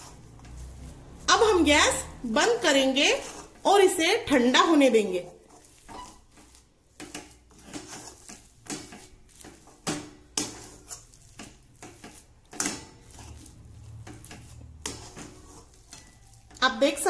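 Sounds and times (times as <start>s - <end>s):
spatula scraping metal pan: 0.0s - 17.0s.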